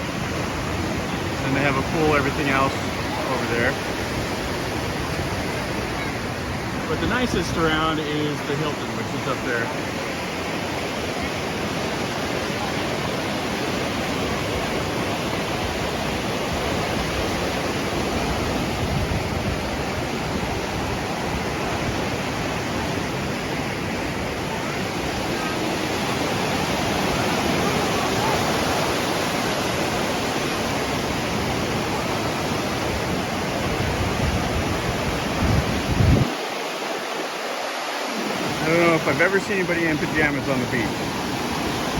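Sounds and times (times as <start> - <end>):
small waves washing onto shore: 0.0 - 41.9
wind: 0.0 - 41.9.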